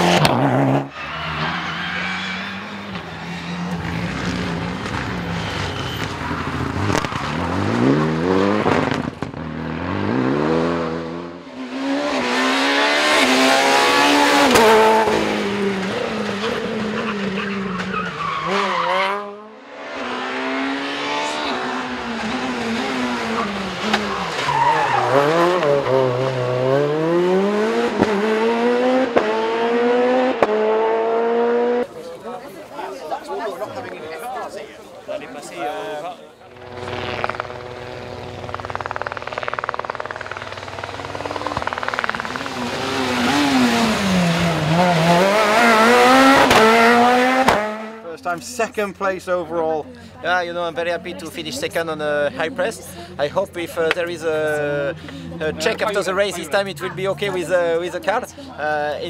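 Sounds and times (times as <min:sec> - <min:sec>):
rally car engines at full throttle: 0:00.0 - 0:32.8, 0:36.2 - 0:59.0.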